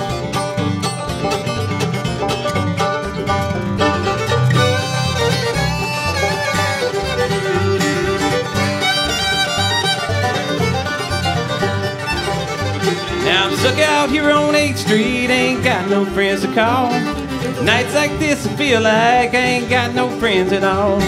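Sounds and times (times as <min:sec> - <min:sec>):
acoustic guitar: 0:00.0 - 0:21.0
fiddle: 0:00.0 - 0:21.0
picked banjo: 0:00.0 - 0:21.0
upright bass: 0:00.0 - 0:21.0.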